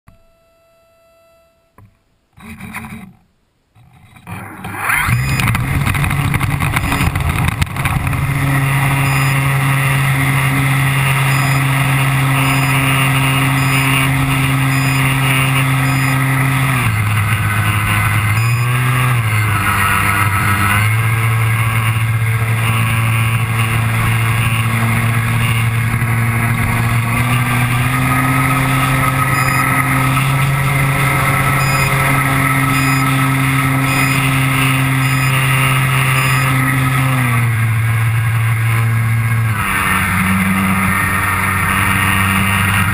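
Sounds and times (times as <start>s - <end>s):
model airplane motor and propeller: 2.4s - 3.2s, 3.8s - 42.9s.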